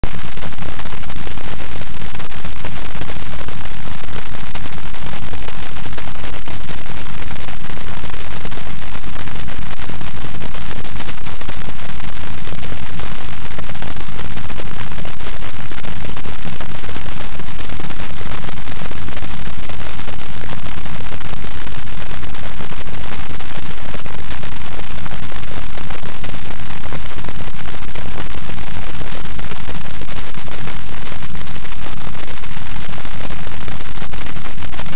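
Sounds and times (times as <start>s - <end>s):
loud static hiss: 0.0s - 34.9s.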